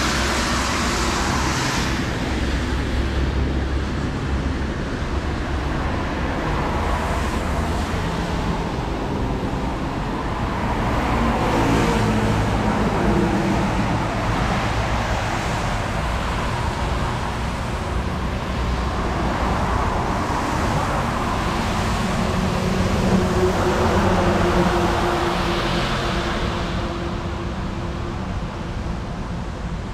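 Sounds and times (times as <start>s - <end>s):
heavy truck engine: 0.0s - 29.9s
traffic on a wet road: 0.0s - 29.9s.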